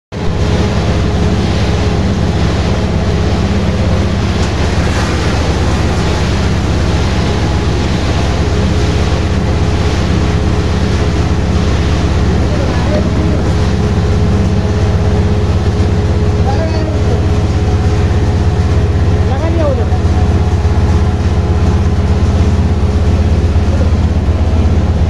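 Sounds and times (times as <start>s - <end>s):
sorting machinery humming: 0.2s - 25.0s.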